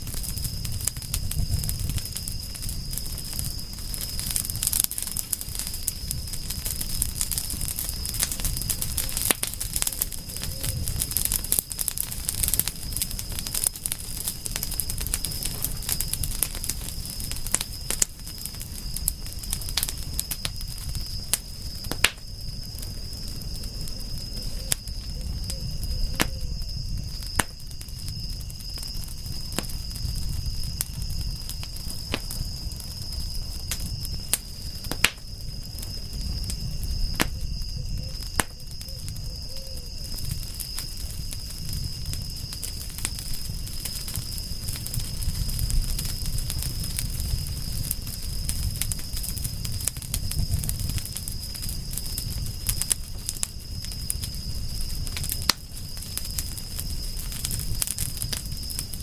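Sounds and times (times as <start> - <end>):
high insect trill: 0.0 - 59.0
low rumble of flames: 0.0 - 59.0
wood fire crackling and popping: 0.0 - 59.0.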